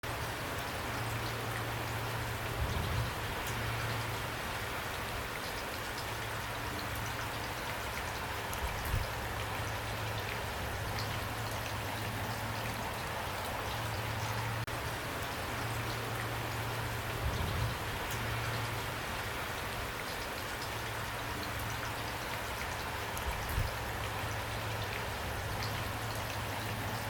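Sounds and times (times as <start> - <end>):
raindrops ticking: 0.0 - 27.0
steady rain: 0.0 - 27.0.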